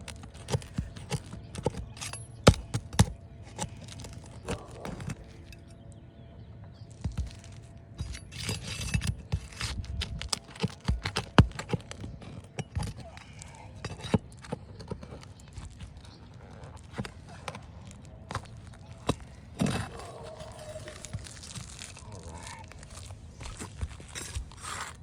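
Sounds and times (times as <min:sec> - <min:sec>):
roofing tool scraping shingles: 0:00.0 - 0:05.6, 0:07.0 - 0:25.0.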